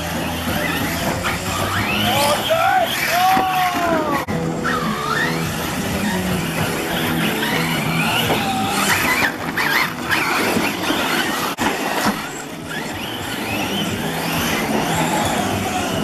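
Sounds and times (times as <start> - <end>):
electric motors whining: 0.0 - 16.0
tyres on gravel: 0.0 - 16.0.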